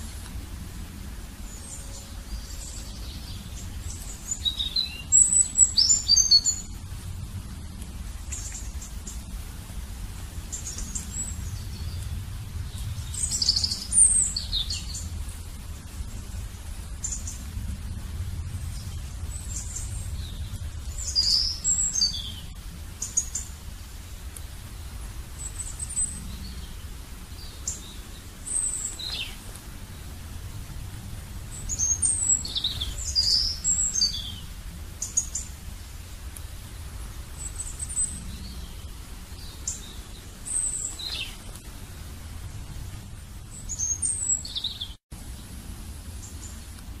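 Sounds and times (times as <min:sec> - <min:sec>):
small birds chirping: 0:00.0 - 0:47.0
steady low rumble: 0:00.0 - 0:47.0.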